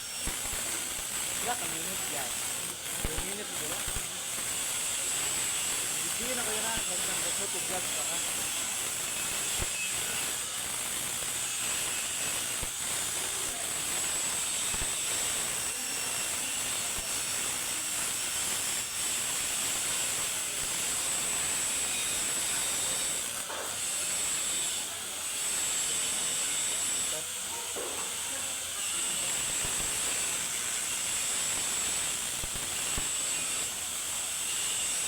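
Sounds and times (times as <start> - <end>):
welding arc hissing and crackling: 0.0 - 35.0.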